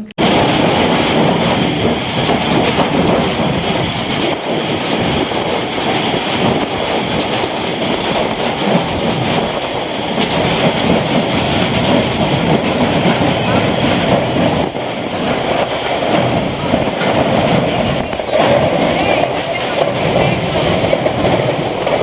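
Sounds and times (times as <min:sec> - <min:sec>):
rain: 0:00.2 - 0:22.0
storm wind roaring: 0:00.2 - 0:22.0.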